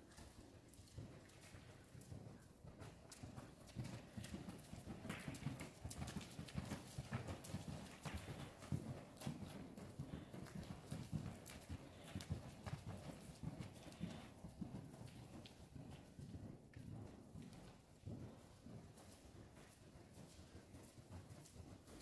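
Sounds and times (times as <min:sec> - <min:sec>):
hooves thudding on dirt: 0:01.2 - 0:22.0.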